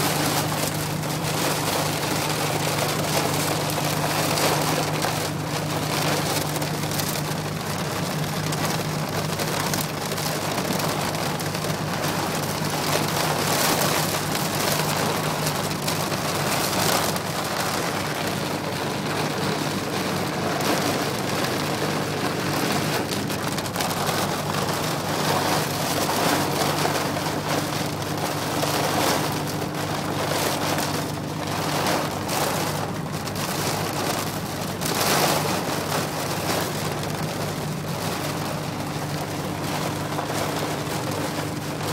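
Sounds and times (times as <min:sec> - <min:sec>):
heavy rain drumming on aircraft: 0:00.0 - 0:41.9.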